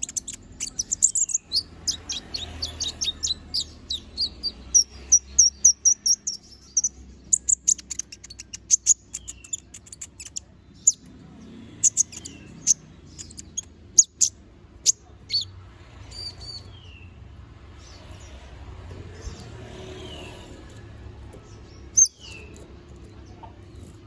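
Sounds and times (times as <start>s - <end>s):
bird chirps and trills: 0.0s - 24.0s.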